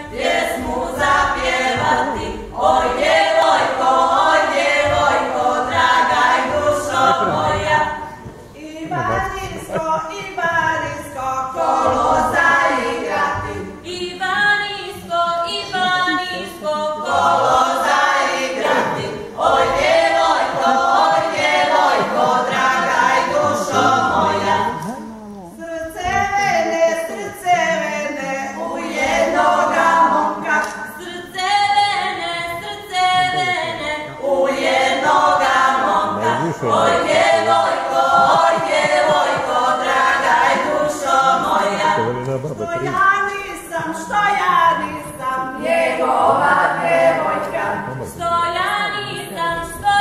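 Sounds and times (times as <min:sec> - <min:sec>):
women's group singing unaccompanied: 0:00.0 - 0:24.9, 0:25.5 - 0:50.0.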